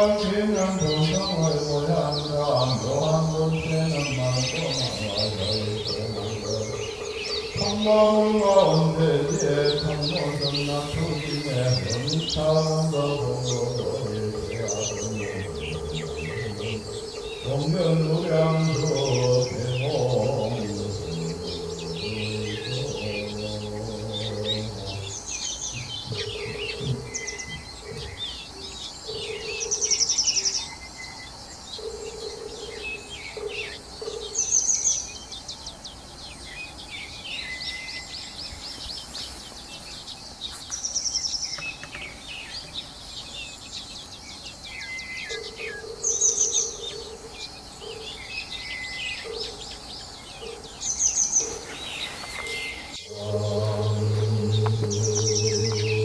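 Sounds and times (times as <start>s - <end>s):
birds chirping in chorus: 0.0s - 56.0s.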